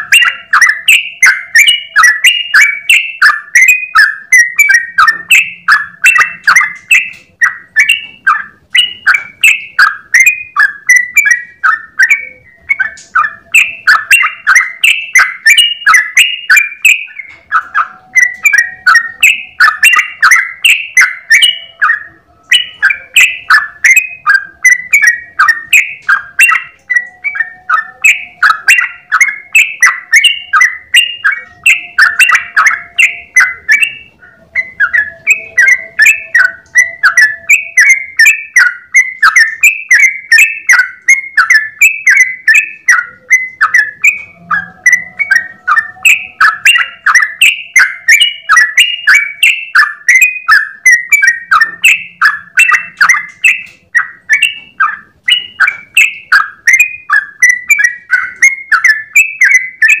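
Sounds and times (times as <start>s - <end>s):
bird singing chattering notes: 0.0s - 60.0s.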